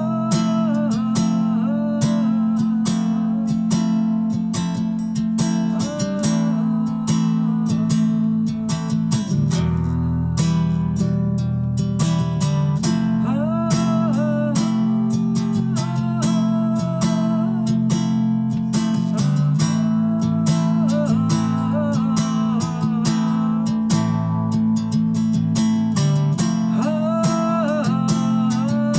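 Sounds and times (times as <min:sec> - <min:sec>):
nylon-string acoustic guitar: 0:00.0 - 0:28.9.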